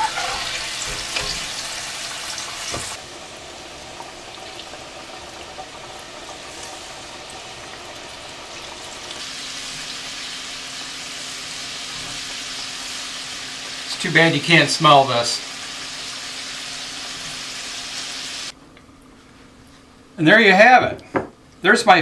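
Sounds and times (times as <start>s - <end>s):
fish deep frying sizzle: 0.0s - 18.6s.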